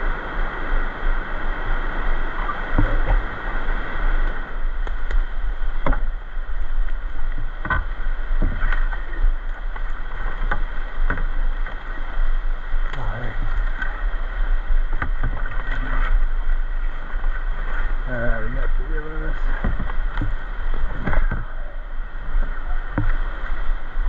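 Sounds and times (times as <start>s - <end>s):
paddle splashing: 0.0s - 24.0s
rushing river water: 0.0s - 24.0s.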